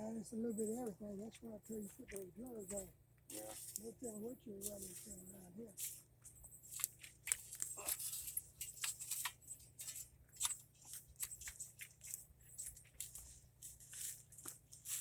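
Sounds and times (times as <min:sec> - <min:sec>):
soil crunching and rustling: 0:00.1 - 0:06.1, 0:06.7 - 0:15.0.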